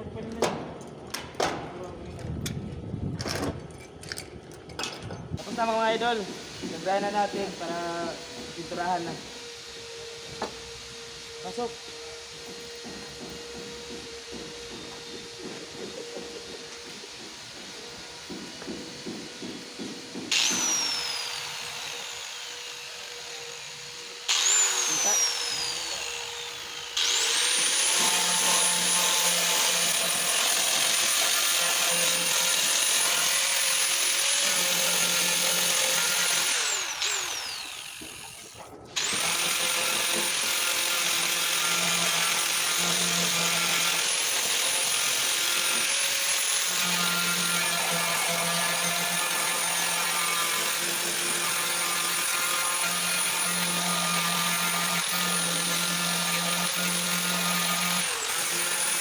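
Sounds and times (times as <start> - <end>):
power sander whining: 5.4 - 59.0.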